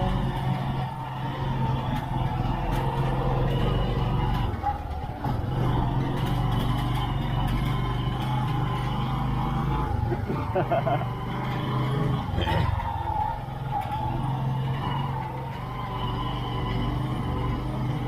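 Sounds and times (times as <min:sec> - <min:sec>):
low motor hum: 0:00.0 - 0:18.0.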